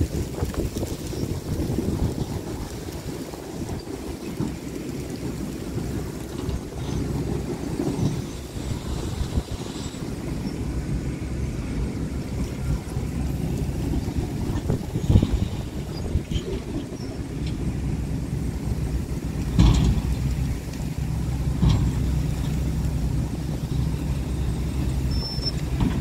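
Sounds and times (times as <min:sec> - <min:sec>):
heavy machinery engines running: 0:00.0 - 0:26.0.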